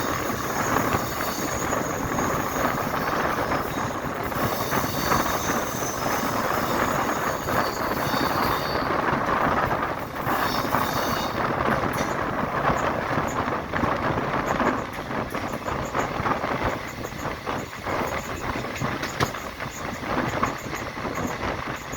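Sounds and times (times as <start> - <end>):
wheel and track noise: 0.0 - 21.9.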